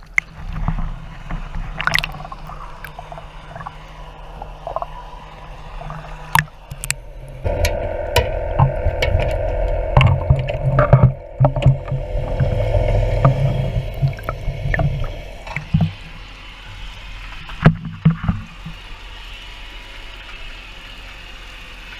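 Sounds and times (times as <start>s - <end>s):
water gurgling and sloshing: 0.0s - 19.0s
boat engine rumble: 0.0s - 21.9s.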